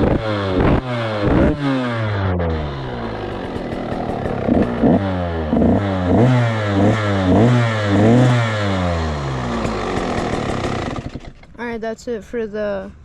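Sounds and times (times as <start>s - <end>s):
two-stroke engine idling and revving: 0.0s - 11.5s.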